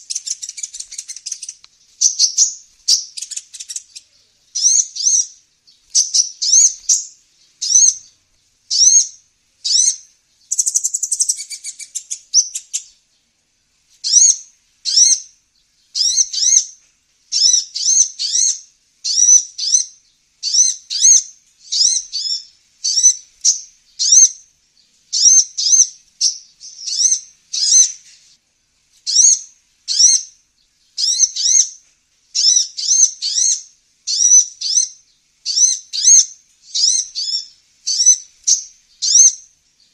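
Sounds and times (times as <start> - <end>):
buzzy bird trill: 0.0 - 13.0, 14.0 - 15.3, 15.9 - 24.5, 25.1 - 28.1, 29.0 - 39.9
sunbird chirping: 0.0 - 39.9.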